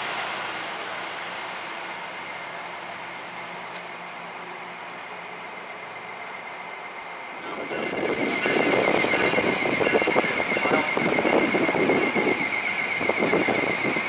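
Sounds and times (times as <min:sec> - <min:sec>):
high whine: 0:00.0 - 0:14.0
train wheels rumbling on rail: 0:00.0 - 0:14.0.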